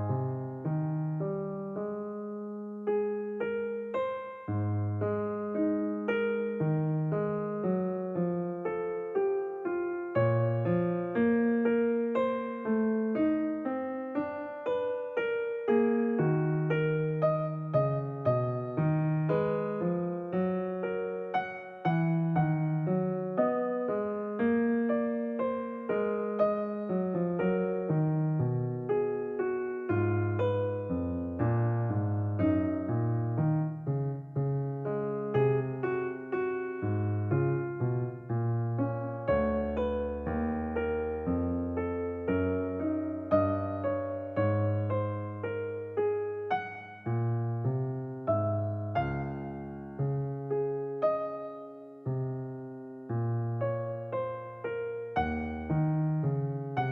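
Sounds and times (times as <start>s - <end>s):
gentle electric piano music: 0.0s - 56.9s.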